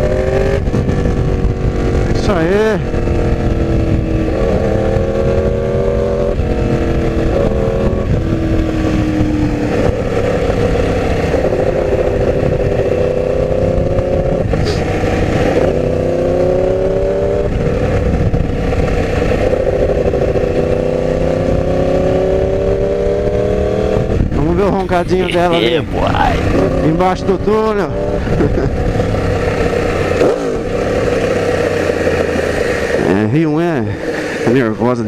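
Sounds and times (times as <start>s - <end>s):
wind rush: 0.0s - 32.9s
motorcycle engine revving: 0.0s - 35.0s.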